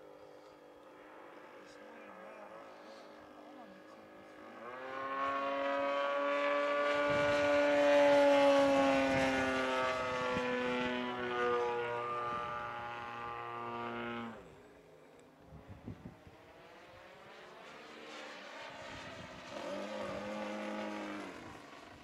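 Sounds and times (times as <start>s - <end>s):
model plane engine buzzing: 0.0s - 22.0s.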